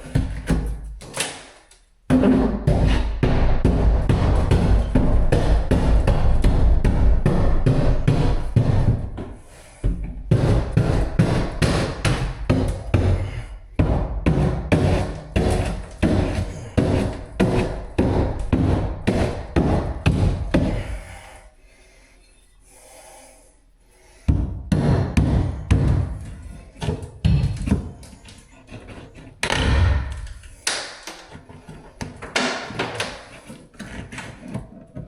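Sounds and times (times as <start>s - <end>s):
bar striking drywall: 0.0s - 21.0s, 24.3s - 35.0s.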